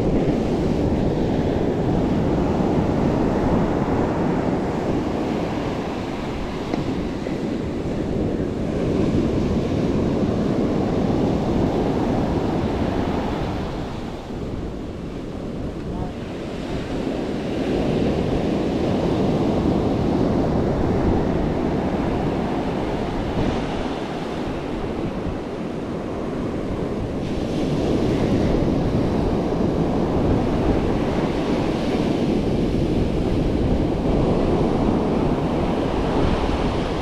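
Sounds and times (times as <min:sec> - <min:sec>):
surf breaking on beach: 0:00.0 - 0:37.0
wind on microphone: 0:00.0 - 0:37.0.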